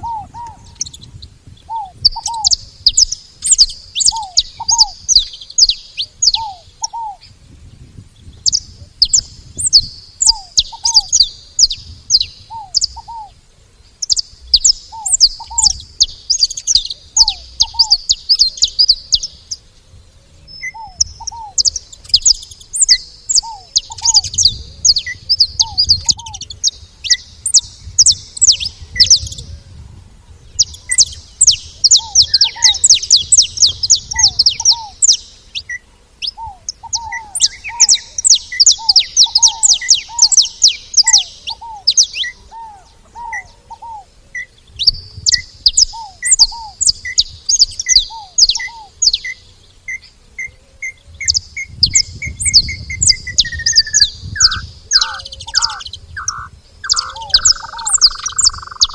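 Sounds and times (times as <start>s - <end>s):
finches chirping rapidly: 0.0s - 7.3s, 8.2s - 13.4s, 14.0s - 19.6s, 20.6s - 29.5s, 30.5s - 42.4s, 43.1s - 50.1s, 50.8s - 58.9s
lower bird call notes: 0.0s - 58.9s.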